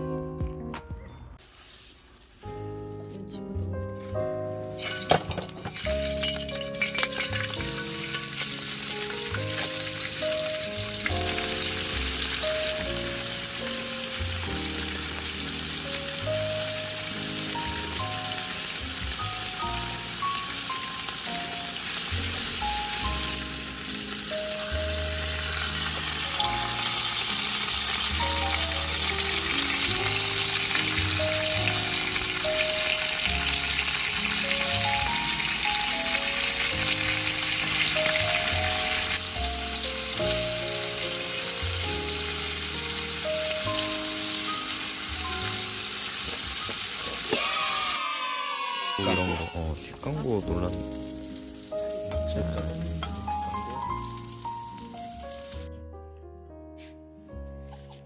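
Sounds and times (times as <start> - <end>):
background music: 0.0 - 48.0, 49.0 - 58.0
food sizzling in a pan: 4.0 - 55.7.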